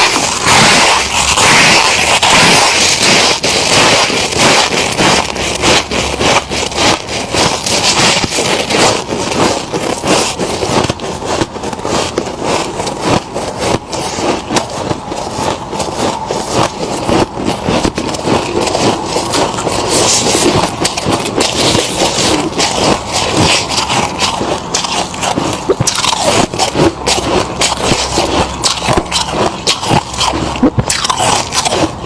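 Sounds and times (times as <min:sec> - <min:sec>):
frost being chewed crunching: 0:00.0 - 0:32.0.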